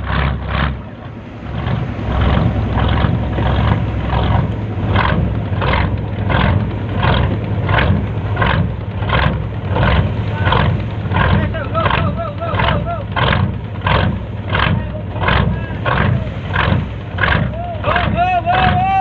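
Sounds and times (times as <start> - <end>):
heavy engine chuffing: 0.0 - 19.0.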